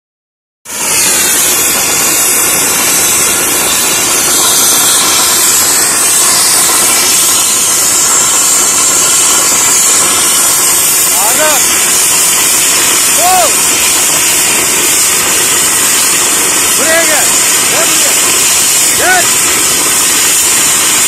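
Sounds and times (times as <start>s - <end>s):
helicopter turbine high-pitched hiss: 0.7s - 21.0s.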